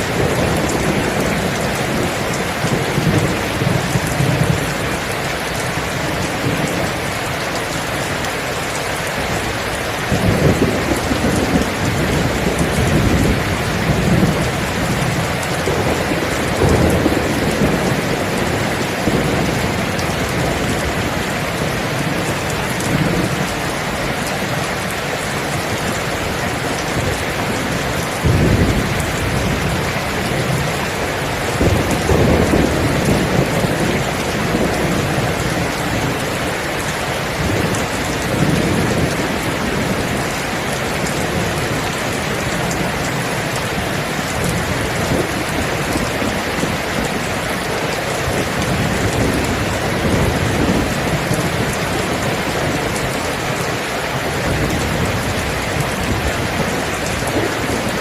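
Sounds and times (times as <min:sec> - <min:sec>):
heavy rain falling: 0:00.0 - 0:58.0
low thunder rumbling: 0:00.0 - 0:58.0.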